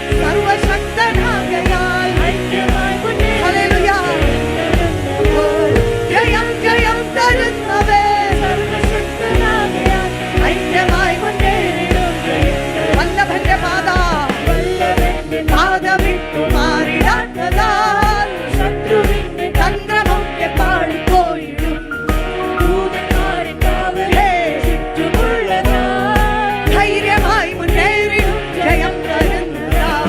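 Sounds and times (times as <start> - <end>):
person singing worship song: 0.0 - 30.0
steady beat: 0.3 - 28.6.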